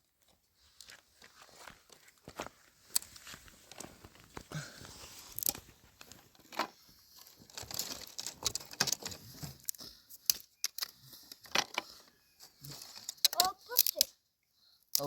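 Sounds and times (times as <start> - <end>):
rustling and crinkling: 0.0 - 14.1.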